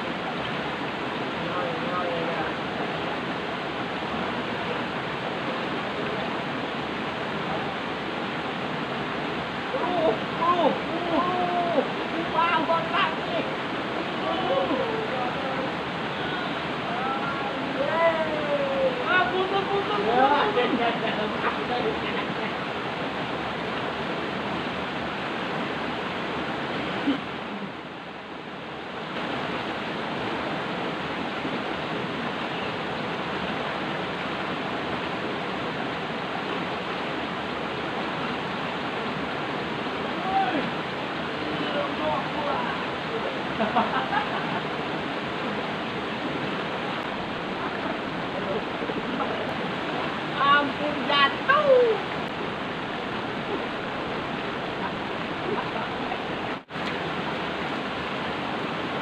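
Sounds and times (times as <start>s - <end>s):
river cascade pouring over rocks: 0.0s - 59.0s
rushing waterfall and rapids: 0.0s - 59.0s.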